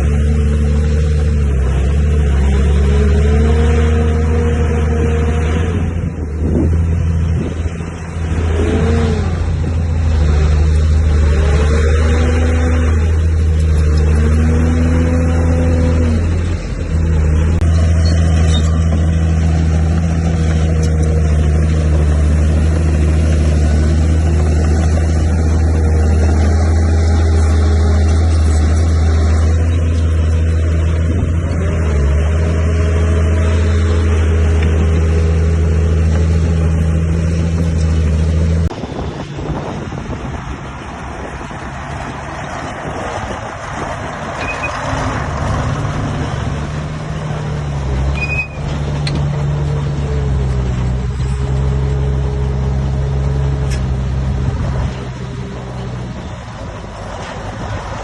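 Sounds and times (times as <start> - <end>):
bulldozer diesel engine revving: 0.0 - 58.0.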